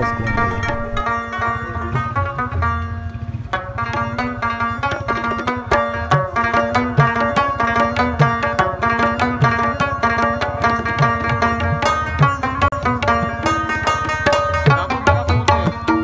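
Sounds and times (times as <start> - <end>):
hand drums keeping a beat: 0.0 - 16.0
rubab plucked in fast runs: 0.0 - 16.0.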